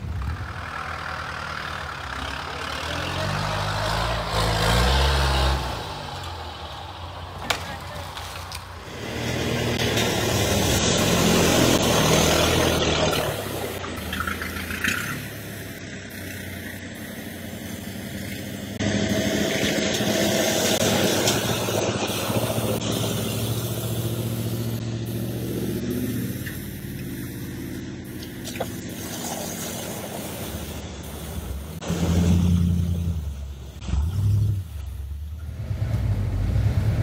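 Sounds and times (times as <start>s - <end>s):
truck engine driving off road: 0.0s - 37.0s.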